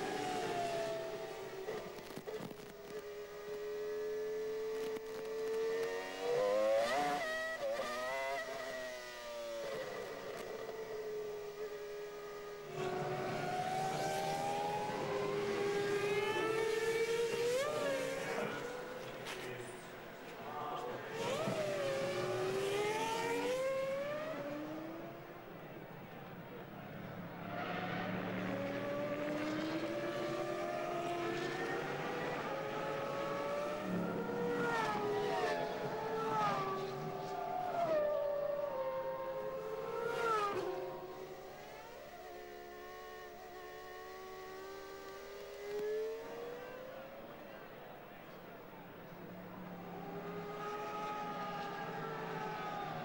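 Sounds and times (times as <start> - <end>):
racing car engines at high revs: 0.0 - 53.0.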